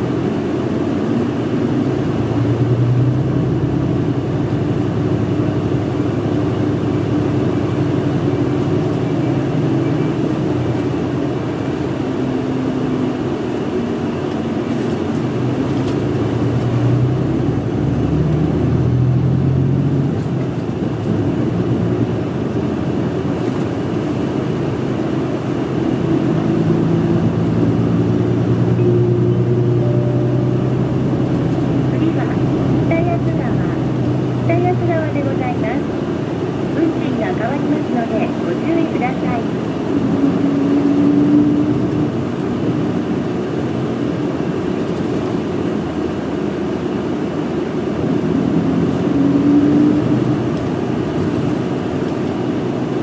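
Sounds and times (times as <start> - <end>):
bus diesel engine humming: 0.0 - 53.0
road noise: 0.0 - 53.0.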